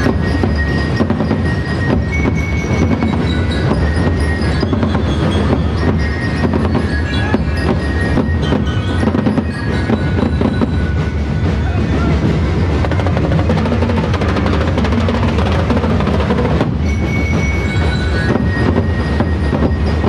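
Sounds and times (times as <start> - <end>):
drum beats: 0.0 - 20.0
ringing bell-like tones: 0.0 - 20.0.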